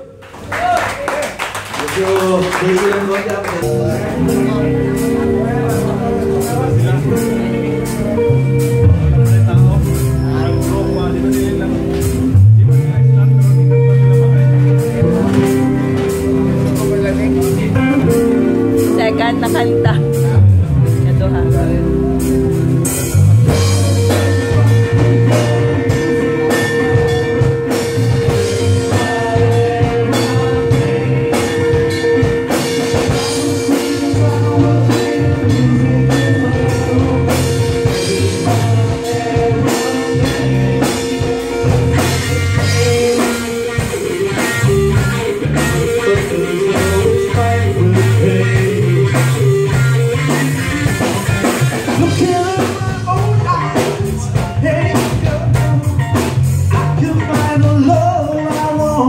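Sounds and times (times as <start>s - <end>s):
drum kit: 0.6s - 59.0s
electric guitar: 2.6s - 59.0s
electric bass: 3.3s - 59.0s.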